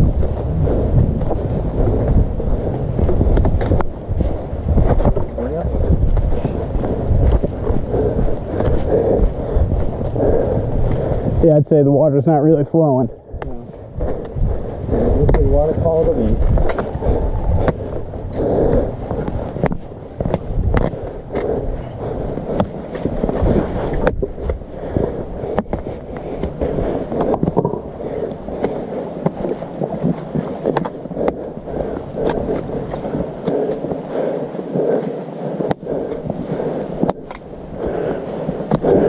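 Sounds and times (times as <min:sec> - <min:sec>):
microphone handling rustle: 0:00.0 - 0:11.4, 0:13.3 - 0:34.0.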